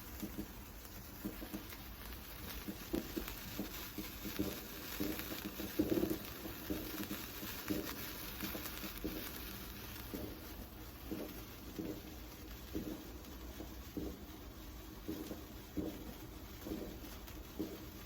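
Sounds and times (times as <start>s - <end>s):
firework fountain fizzing: 0.0s - 18.0s.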